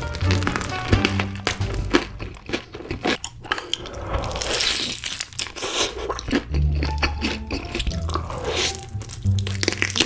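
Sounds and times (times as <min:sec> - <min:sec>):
chewing crispy fried chicken: 0:00.0 - 0:10.0.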